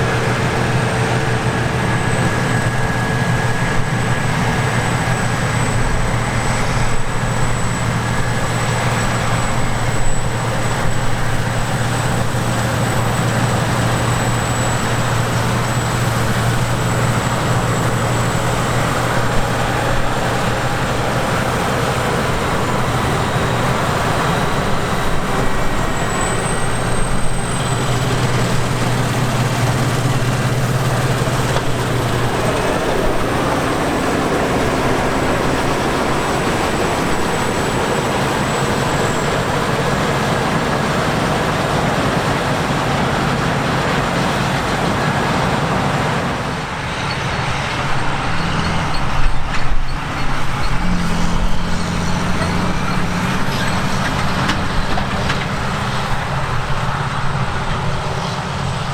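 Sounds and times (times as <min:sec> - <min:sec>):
broad rushing noise: 0:00.0 - 0:58.9
harvester engine drone: 0:00.0 - 0:58.9.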